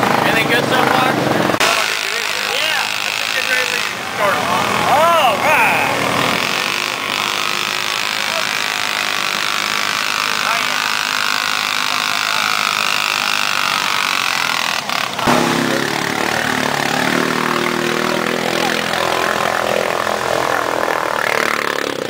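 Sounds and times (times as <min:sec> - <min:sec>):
quad engines revving: 0:00.0 - 0:22.0.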